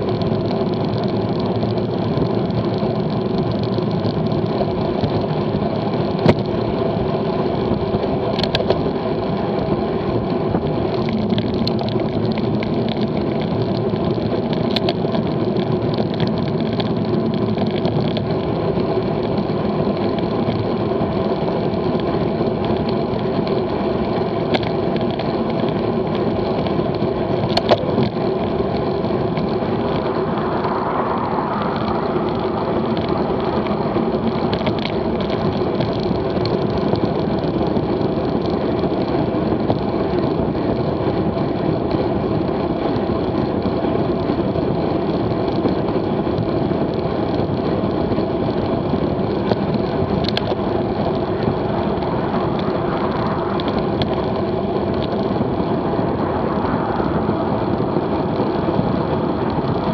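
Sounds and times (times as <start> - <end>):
tyre hum on asphalt: 0.0 - 59.9
wind rushing over microphone: 0.0 - 59.9.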